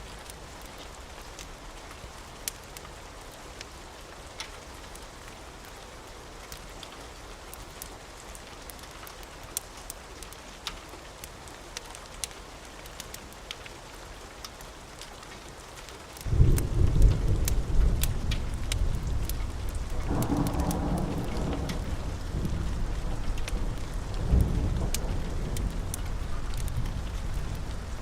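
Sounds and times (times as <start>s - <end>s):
rain falling: 0.0s - 28.0s
raindrops ticking: 0.0s - 28.0s
wood fire crackling: 0.0s - 28.0s.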